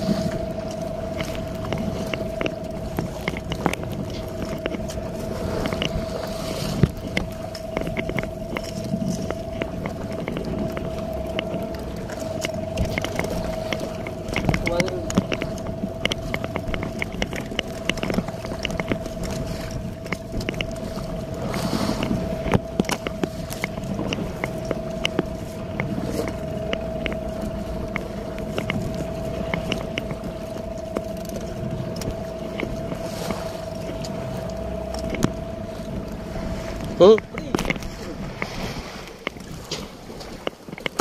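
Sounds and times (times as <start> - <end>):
boat motor whining: 0.0 - 41.0.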